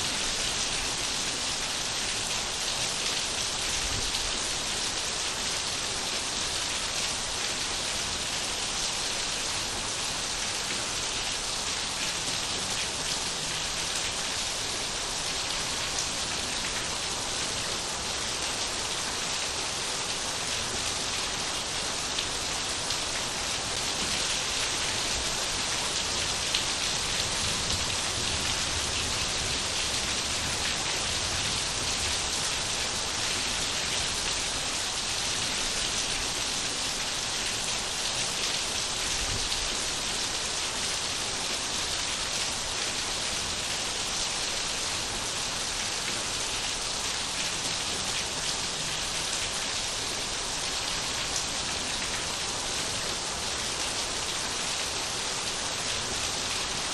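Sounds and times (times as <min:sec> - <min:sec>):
rain pattering on surfaces: 0:09.4 - 0:56.9.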